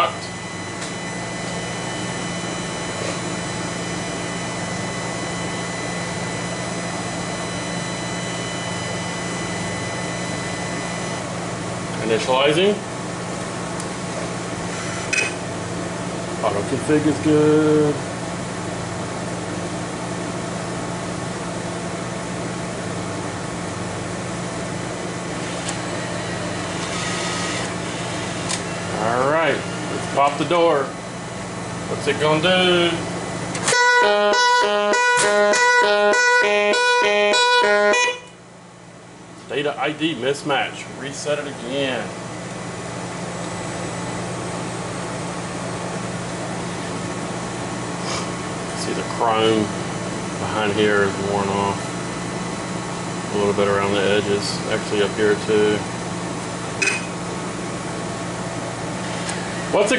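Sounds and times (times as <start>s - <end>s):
air conditioner fan running: 0.0s - 59.9s.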